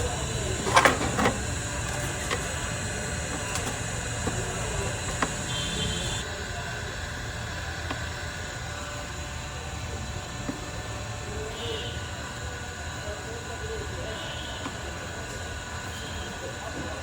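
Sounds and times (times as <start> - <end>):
traffic rumble and hiss: 0.0 - 17.0.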